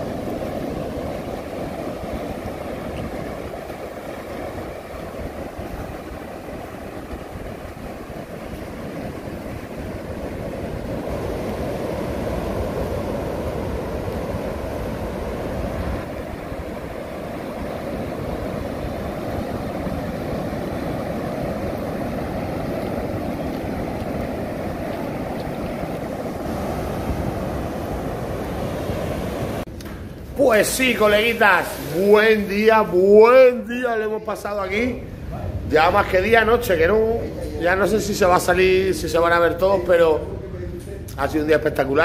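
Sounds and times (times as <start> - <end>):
ocean surf breaking: 0.0 - 42.0
wind rumbling on microphone: 0.0 - 42.0.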